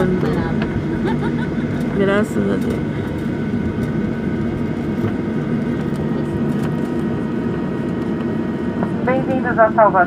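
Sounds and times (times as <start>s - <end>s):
jet engines and airflow rushing: 0.0s - 10.0s
thin steady whine: 0.0s - 10.0s.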